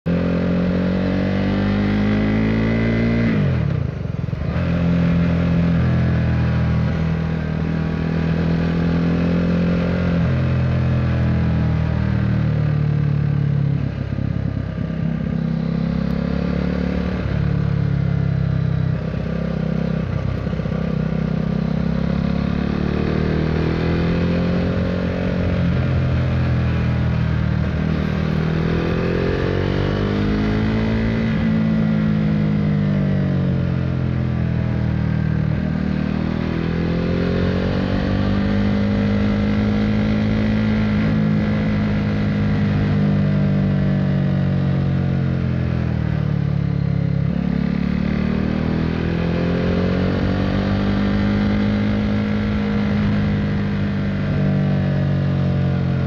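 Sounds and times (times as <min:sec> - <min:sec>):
motorcycle engine revving: 0:00.1 - 0:56.0.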